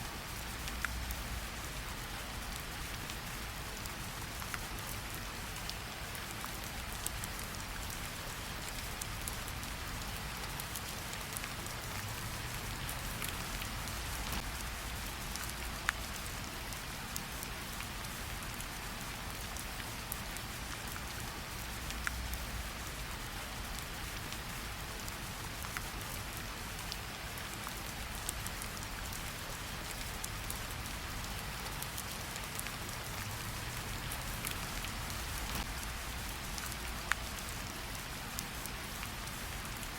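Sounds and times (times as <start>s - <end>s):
rain falling: 0.0s - 39.9s
raindrop ticks: 3.9s - 22.8s, 23.6s - 39.9s.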